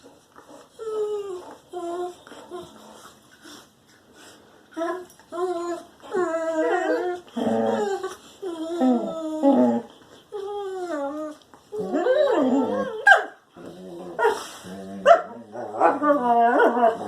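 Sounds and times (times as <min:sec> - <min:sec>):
dog whining: 0:00.4 - 0:03.1, 0:04.8 - 0:17.0.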